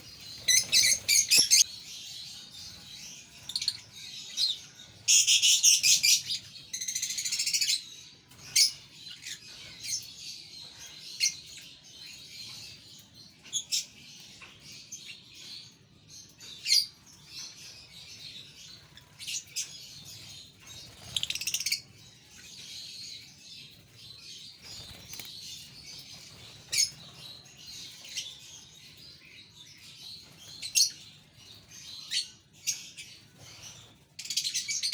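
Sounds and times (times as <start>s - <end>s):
parrots chirping and chattering: 0.0s - 34.9s.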